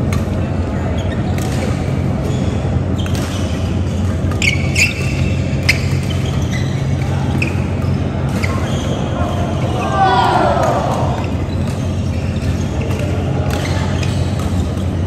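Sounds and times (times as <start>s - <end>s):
rackets striking shuttlecock: 1.2s - 9.0s, 9.6s - 15.0s.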